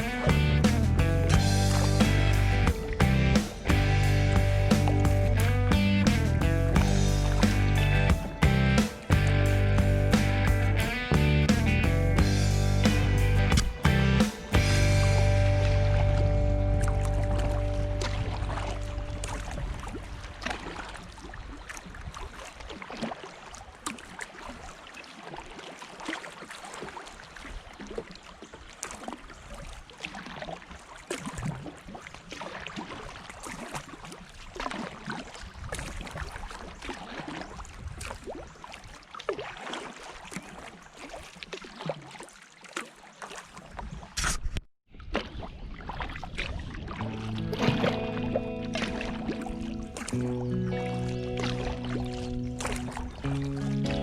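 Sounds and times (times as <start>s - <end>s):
water sloshing around hull: 0.0s - 6.0s, 6.7s - 10.1s, 13.4s - 54.0s
paddle blades splashing: 0.0s - 54.0s.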